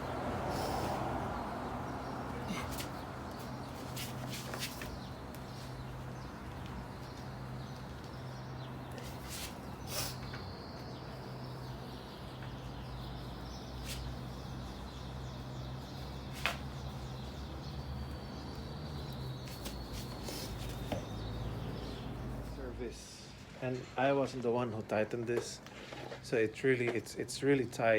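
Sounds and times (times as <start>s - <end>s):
faint birds chirping: 0.0s - 24.7s.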